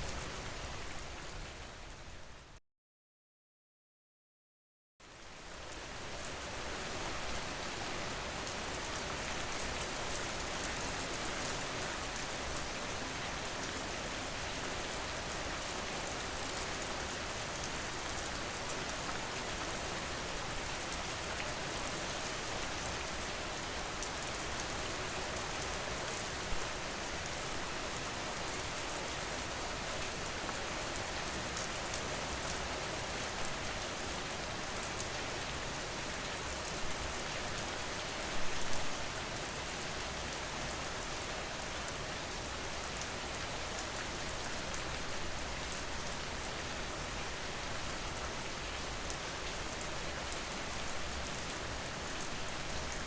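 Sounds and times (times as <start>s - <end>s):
steady rain falling: 5.0s - 53.0s.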